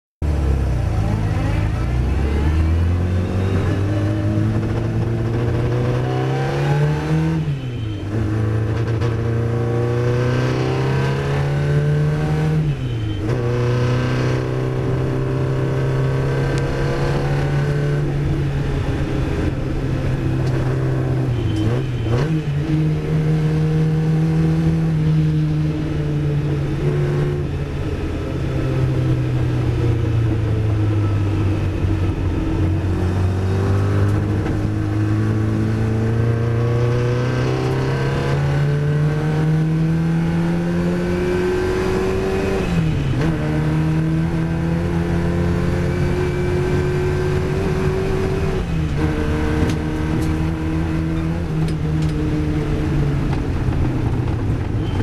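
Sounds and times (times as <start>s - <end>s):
racing car engine accelerating: 0.2s - 55.0s.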